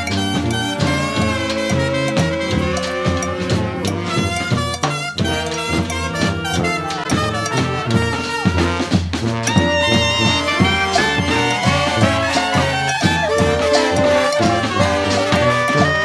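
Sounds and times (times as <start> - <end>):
swing jazz with brass and saxophone: 0.0 - 16.0.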